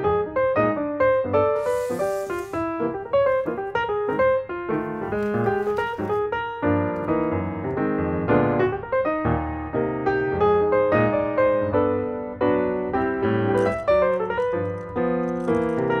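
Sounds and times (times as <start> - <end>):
piano music: 1.1 - 16.0.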